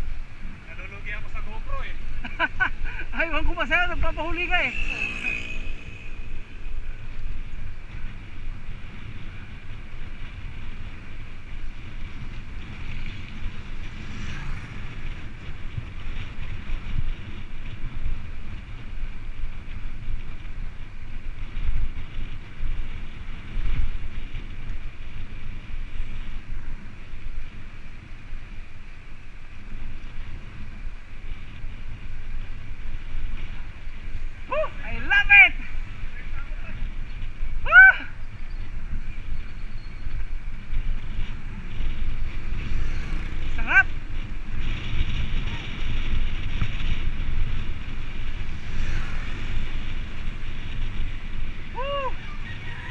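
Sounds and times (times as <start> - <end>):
bicycle rolling hiss: 0.0 - 52.9
wind buffeting microphone: 0.0 - 52.9.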